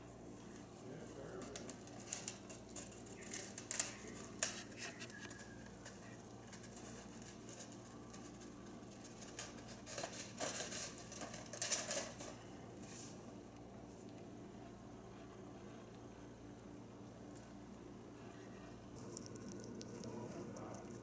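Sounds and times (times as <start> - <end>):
hedgehog scratchy clicks and rustles: 0.4 - 16.1, 17.1 - 21.0.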